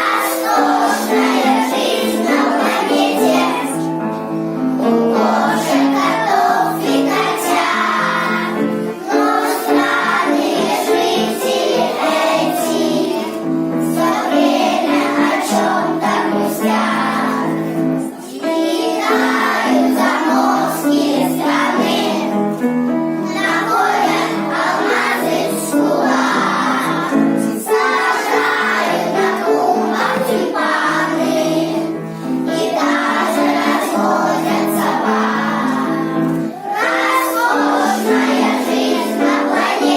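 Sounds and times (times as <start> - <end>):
children singing with music: 0.0 - 39.9.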